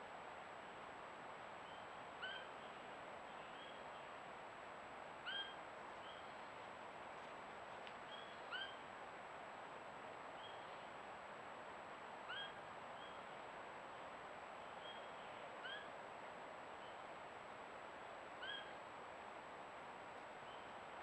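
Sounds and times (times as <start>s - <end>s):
microphone hiss: 0.0s - 21.0s.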